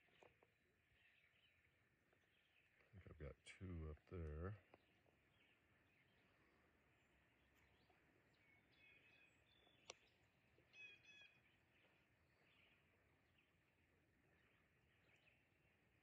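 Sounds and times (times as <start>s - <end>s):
faint bird chirps: 0.0s - 3.6s, 4.3s - 16.0s.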